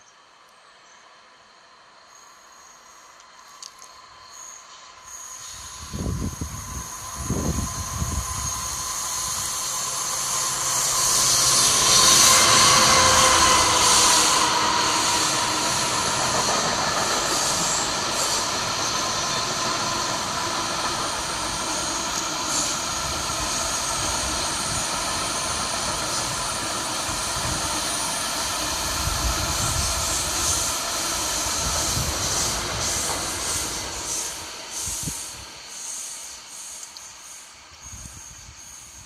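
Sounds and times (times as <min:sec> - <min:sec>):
high ringing of train wheels: 0:00.8 - 0:39.0
freight train wheels rumbling: 0:02.8 - 0:39.0.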